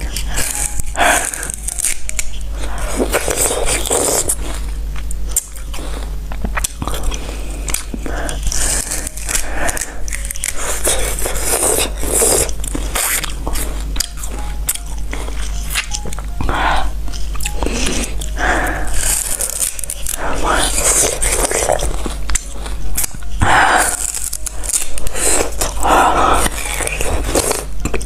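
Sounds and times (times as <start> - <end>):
crunchy fruit chewing: 0.0 - 28.0
knife scraping fruit: 0.0 - 28.0.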